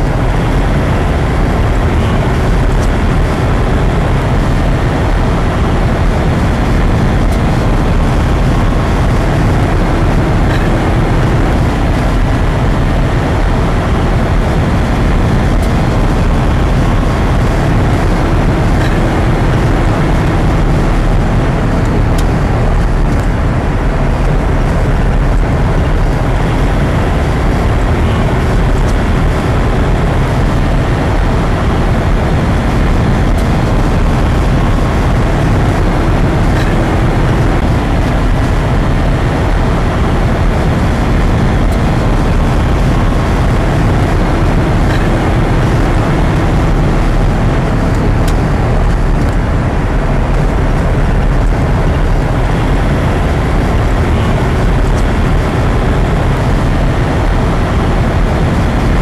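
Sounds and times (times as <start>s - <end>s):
car road noise from inside: 0.0s - 59.0s.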